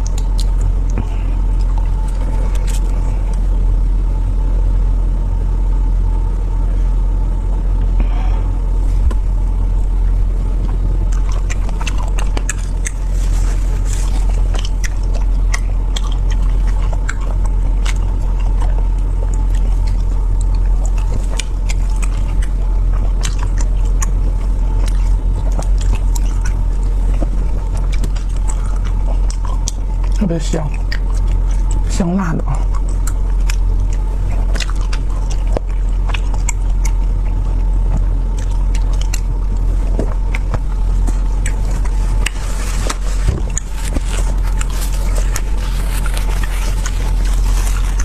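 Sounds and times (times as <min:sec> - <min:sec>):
person biting and chewing: 0:00.0 - 0:03.8, 0:07.9 - 0:48.0
steady deep rumble: 0:00.0 - 0:48.0.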